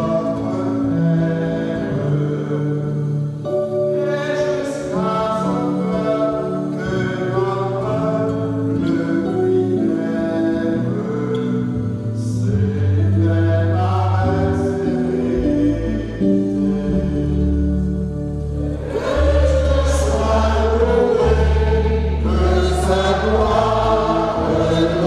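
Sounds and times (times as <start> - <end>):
choir singing: 0.0 - 25.0
electronic keyboard: 0.0 - 25.0.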